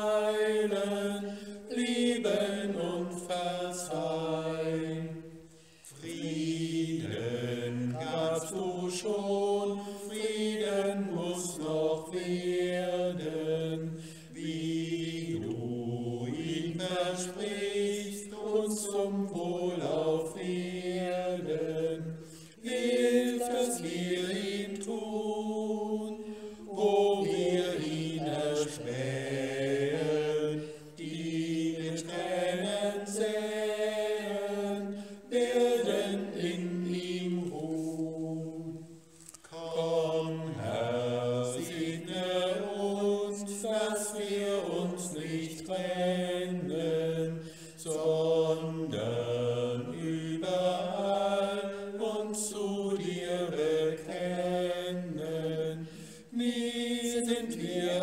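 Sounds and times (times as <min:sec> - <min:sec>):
people singing a hymn: 0:00.0 - 0:58.0.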